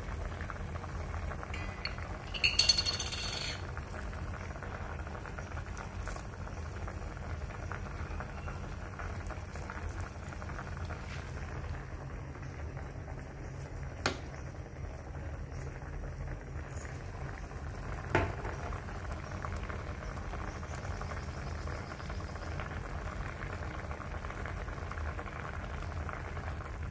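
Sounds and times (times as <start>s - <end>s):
liquid bubbling at a boil: 0.0s - 26.9s.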